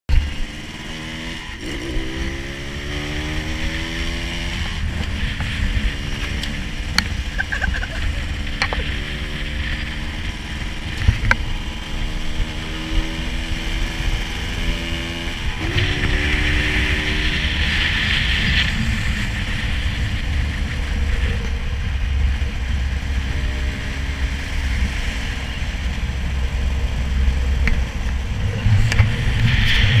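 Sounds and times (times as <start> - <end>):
road rumble: 0.1 - 30.0
scooter engine accelerating: 0.1 - 30.0
wind on microphone: 0.1 - 30.0.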